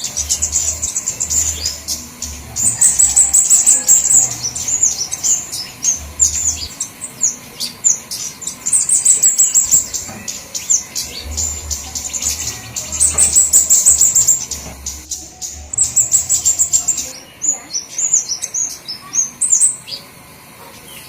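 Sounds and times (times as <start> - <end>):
birds chipping and twittering: 0.0 - 21.0.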